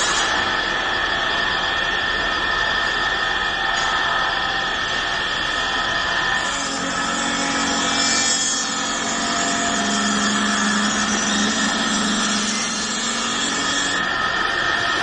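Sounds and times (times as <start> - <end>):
wood lathe machine whine: 0.0 - 15.0.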